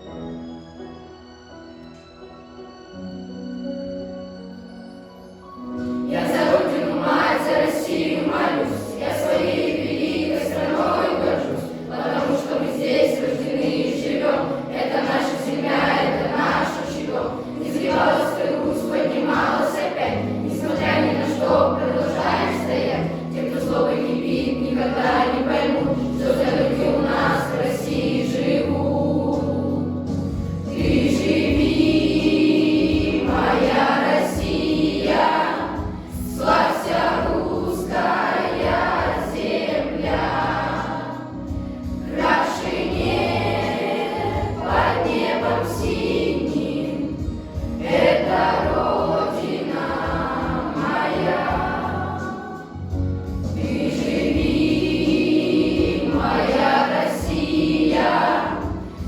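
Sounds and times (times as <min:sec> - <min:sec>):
children's choir singing: 0:05.8 - 0:59.0.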